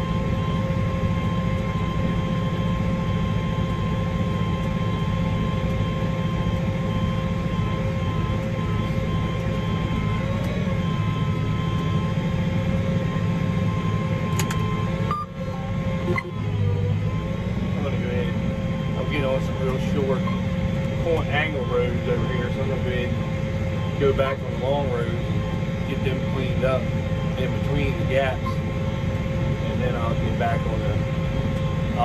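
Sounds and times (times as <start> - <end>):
high whine: 0.0 - 32.0
tractor engine running: 0.0 - 32.0.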